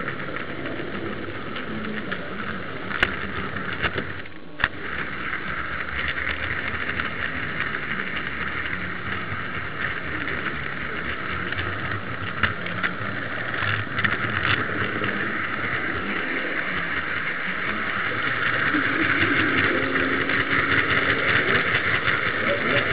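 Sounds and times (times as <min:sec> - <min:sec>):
model train wagon rumbling on track: 0:00.0 - 0:22.9.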